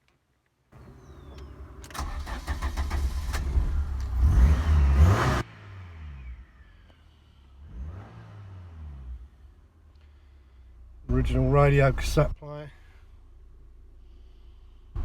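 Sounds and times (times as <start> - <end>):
car engine starting and running: 0.8 - 15.0.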